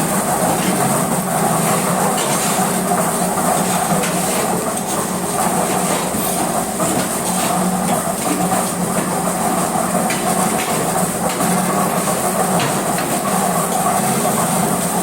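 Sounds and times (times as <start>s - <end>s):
block-making machinery hum: 0.0s - 15.0s.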